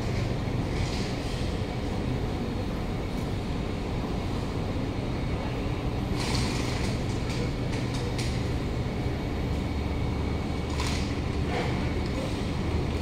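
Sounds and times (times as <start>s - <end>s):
train equipment hum: 0.0s - 13.0s.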